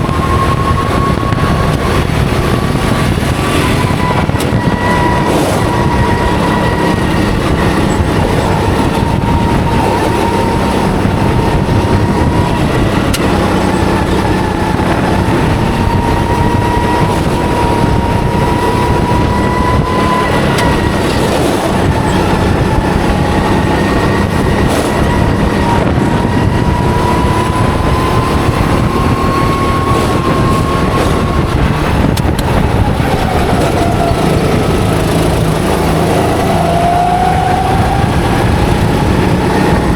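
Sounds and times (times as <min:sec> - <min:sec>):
go-kart engine at high revs: 0:00.0 - 0:39.9
rumbling chassis and road noise: 0:00.0 - 0:39.9.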